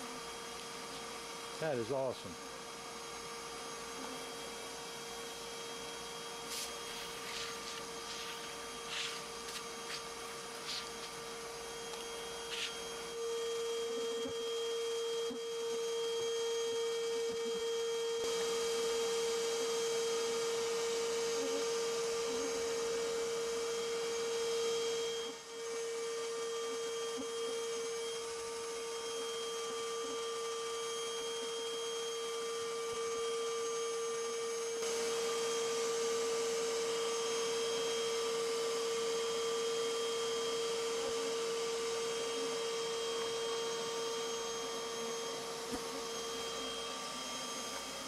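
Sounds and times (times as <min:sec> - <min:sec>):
vacuum motor whine: 0:00.0 - 0:48.0.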